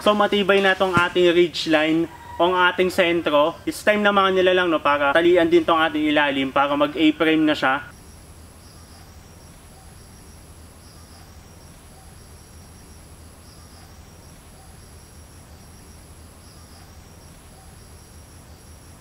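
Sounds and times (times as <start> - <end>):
faint pulsing insect chirps: 0.0 - 19.0
high cricket-like trill: 0.0 - 19.0.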